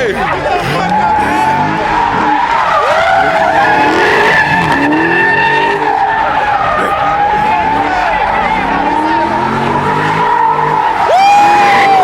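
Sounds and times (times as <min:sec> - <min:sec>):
car engine revving: 0:00.0 - 0:12.0
car tyres squealing: 0:00.0 - 0:12.0.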